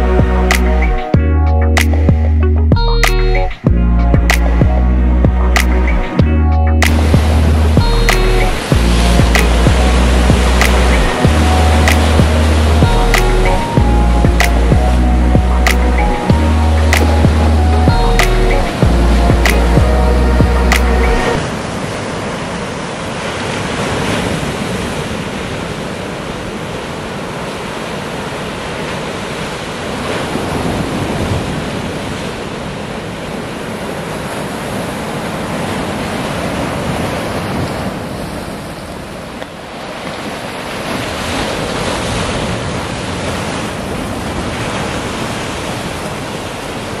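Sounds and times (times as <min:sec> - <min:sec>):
surf washing over rocks: 0:06.8 - 0:47.0.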